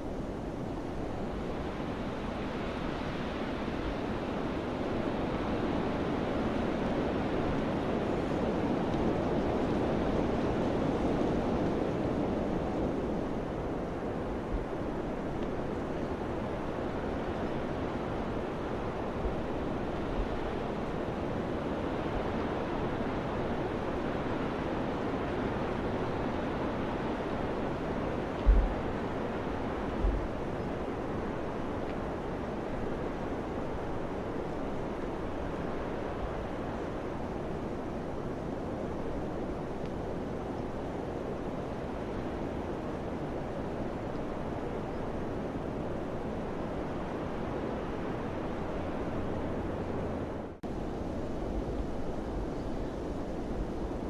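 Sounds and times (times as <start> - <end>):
wind blowing: 0.0 - 54.0.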